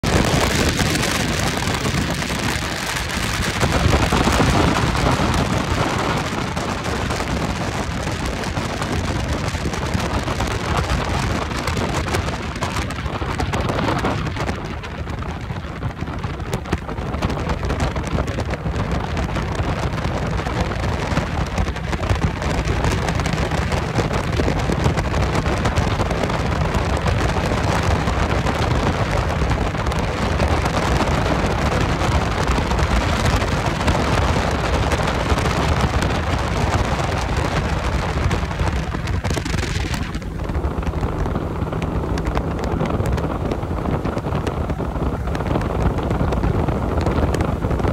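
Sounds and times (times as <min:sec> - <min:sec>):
outboard motor rumble: 0:00.0 - 0:47.9
rushing wind and water: 0:00.0 - 0:47.9
wind buffeting microphone: 0:00.0 - 0:47.9.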